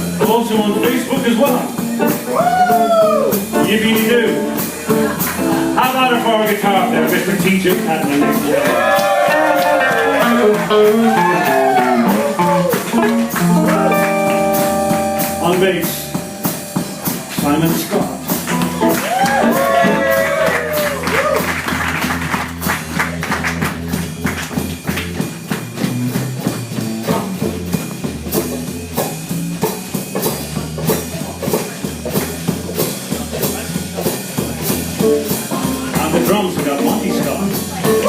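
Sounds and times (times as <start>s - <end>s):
bass line: 0.0s - 38.0s
drum beat: 0.0s - 38.0s
guitar: 0.0s - 38.0s.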